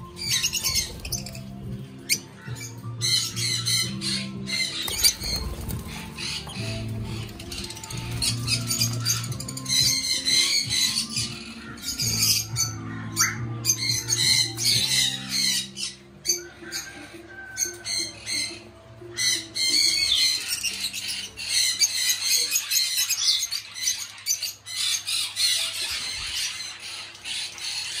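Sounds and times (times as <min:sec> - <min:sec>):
background music: 0:00.0 - 0:28.0
parrots chattering and squawking: 0:00.0 - 0:28.0.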